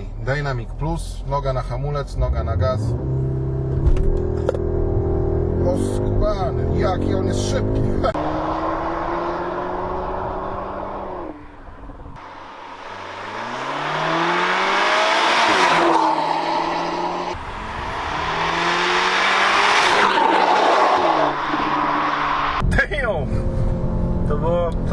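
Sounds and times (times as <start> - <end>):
car engine accelerating hard: 2.2 - 22.7.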